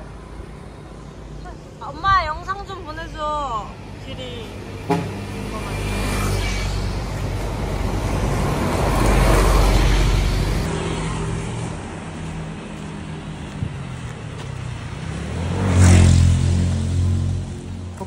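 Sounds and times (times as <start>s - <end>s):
bus driving past: 0.0s - 18.0s
vehicle passing with low engine tone: 0.0s - 18.0s.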